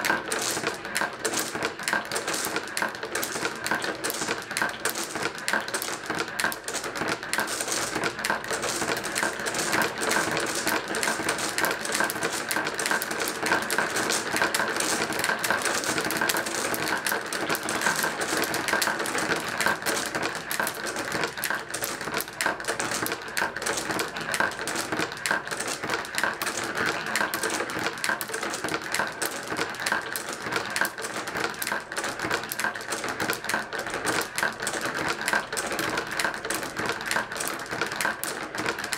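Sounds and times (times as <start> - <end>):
marbles clicking down a marble run: 0.0 - 38.9.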